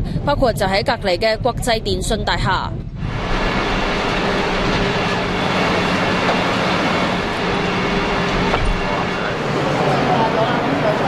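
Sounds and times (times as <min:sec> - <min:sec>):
large fire burning: 0:00.0 - 0:11.0
low steady hum: 0:00.0 - 0:11.0.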